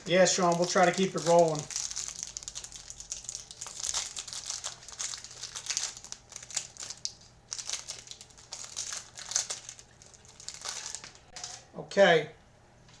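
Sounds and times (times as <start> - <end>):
packaging crinkling and rustling: 0.0 - 11.7.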